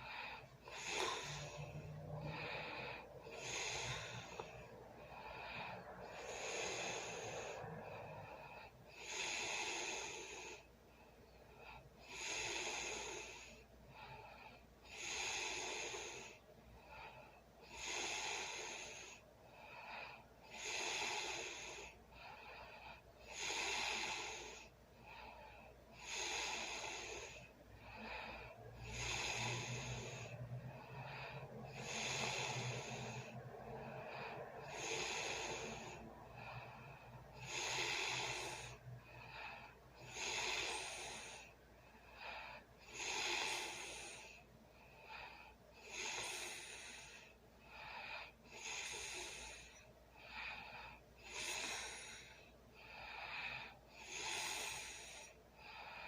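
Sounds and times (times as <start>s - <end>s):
person snoring: 0.0s - 10.6s, 12.1s - 13.6s, 14.9s - 16.4s, 17.7s - 19.2s, 20.5s - 22.0s, 23.2s - 24.7s, 26.0s - 41.5s, 42.2s - 44.4s, 45.1s - 56.0s.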